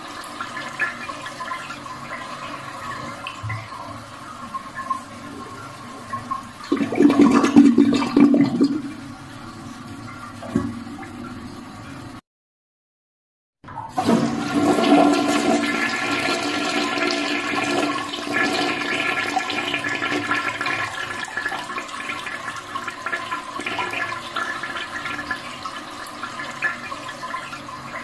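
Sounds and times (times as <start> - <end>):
toilet flushing: 0.0 - 12.2, 13.7 - 28.0.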